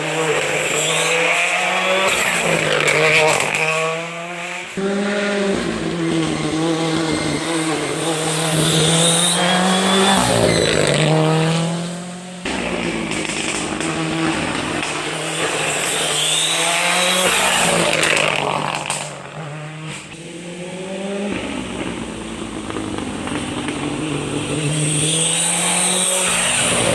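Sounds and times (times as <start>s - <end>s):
rally car engines revving: 0.0s - 26.9s.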